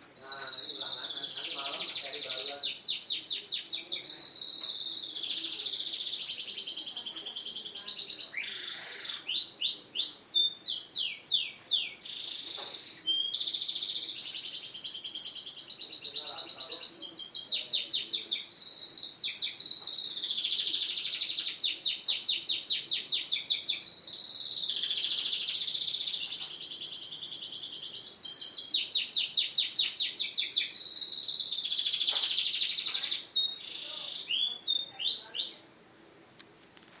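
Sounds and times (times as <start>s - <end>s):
canary singing trills: 0.0s - 35.7s.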